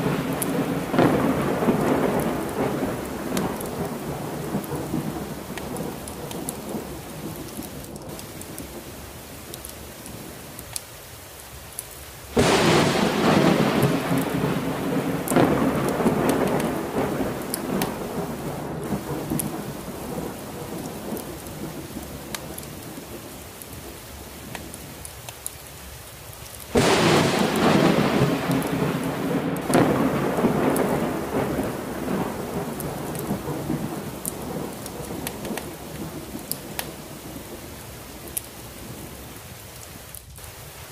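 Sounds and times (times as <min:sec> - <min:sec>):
thunder rumbling: 0:00.0 - 0:10.5, 0:12.3 - 0:25.0, 0:26.7 - 0:39.4
heavy rain: 0:00.0 - 0:40.9.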